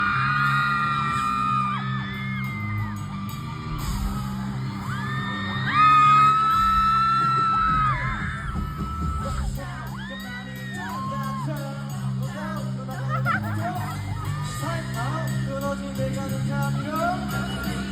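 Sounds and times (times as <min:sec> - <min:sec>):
crowd screaming: 0:00.0 - 0:17.9.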